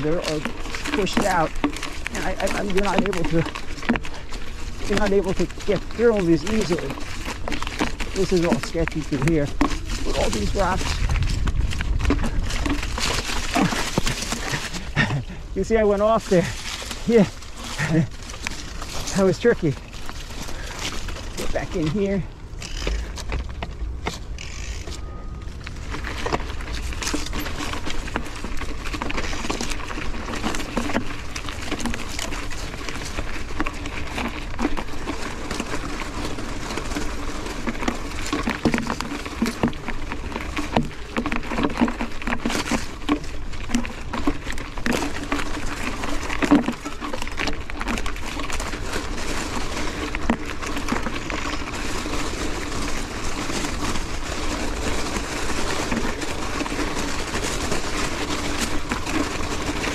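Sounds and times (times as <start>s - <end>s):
mountain bike rattling over rocks: 0.0s - 59.9s.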